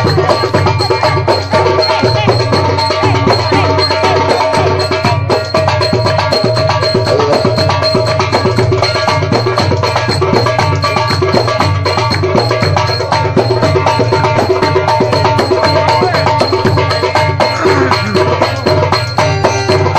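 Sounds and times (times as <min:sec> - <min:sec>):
fast hand percussion: 0:00.0 - 0:19.9
pitched folk melody: 0:00.0 - 0:19.9.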